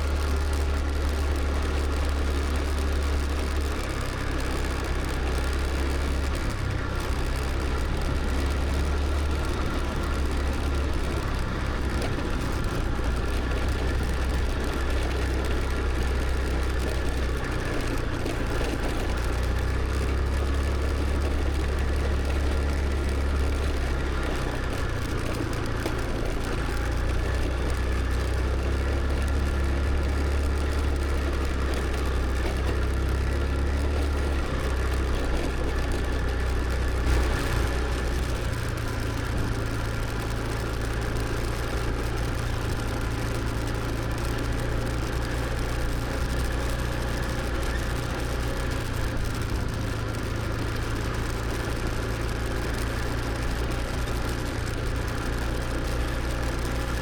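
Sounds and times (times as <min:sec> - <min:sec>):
motor scooter engine hum: 0:00.0 - 0:57.0
road noise: 0:00.0 - 0:57.0.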